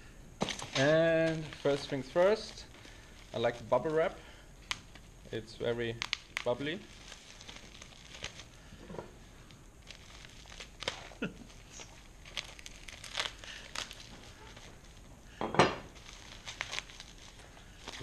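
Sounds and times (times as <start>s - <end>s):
plastic wrapping crinkling: 0.4s - 18.0s.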